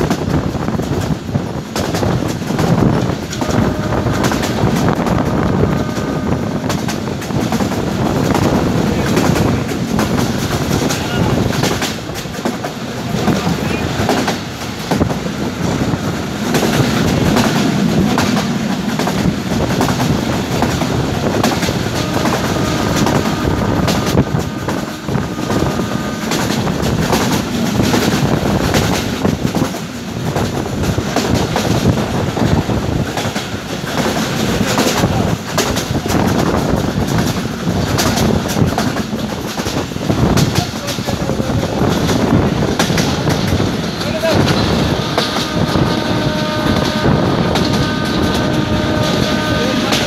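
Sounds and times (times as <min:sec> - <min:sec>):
train rumbling along track: 0:00.0 - 0:50.0
wind noise: 0:00.0 - 0:50.0.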